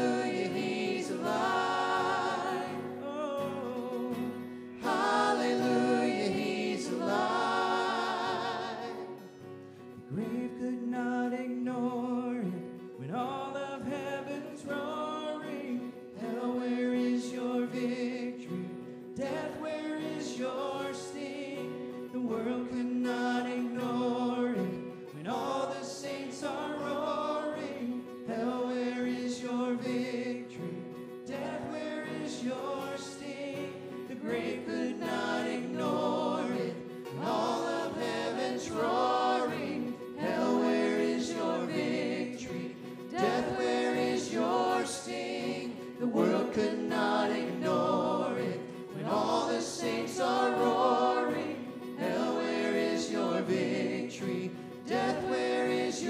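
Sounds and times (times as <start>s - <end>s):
acoustic guitar: 0.0s - 56.0s
people singing worship song: 0.0s - 56.0s.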